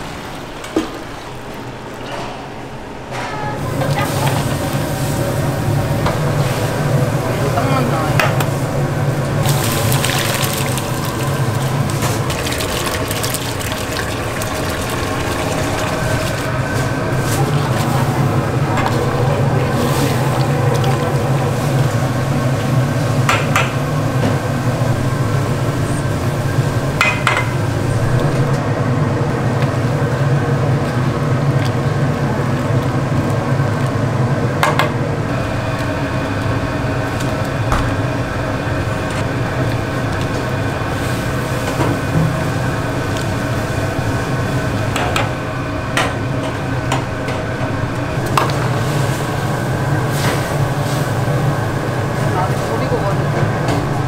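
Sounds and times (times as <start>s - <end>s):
kitchen hum: 0.0s - 54.0s.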